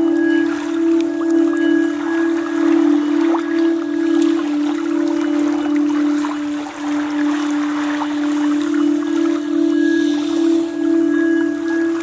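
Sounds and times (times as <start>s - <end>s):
faint higher tones: 0.0s - 12.0s
low electronic drone: 0.0s - 12.0s.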